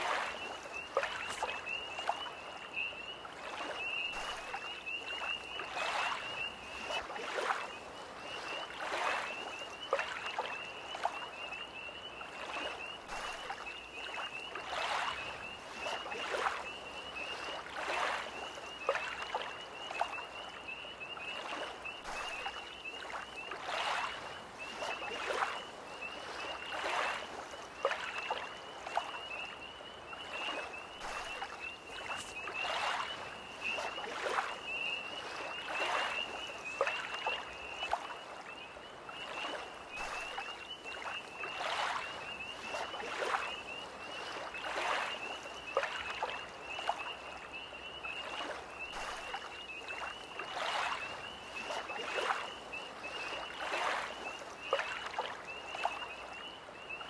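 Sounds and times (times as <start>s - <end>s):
tree frogs trilling chorus: 0.0s - 57.0s
waves lapping at shore: 0.0s - 57.0s.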